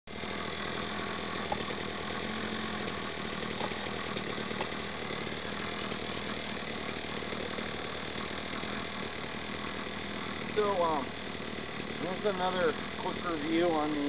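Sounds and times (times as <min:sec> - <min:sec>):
small gasoline engine idling: 0:00.1 - 0:14.0.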